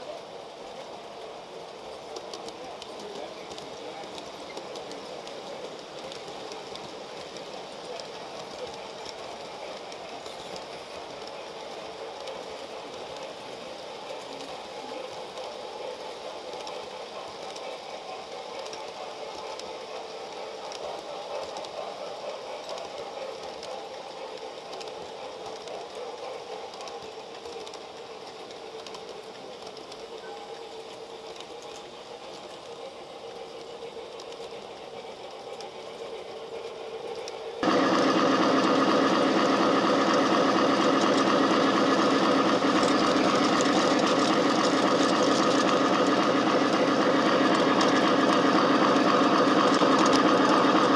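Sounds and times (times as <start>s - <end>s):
model train motor whirring: 0.0s - 50.9s.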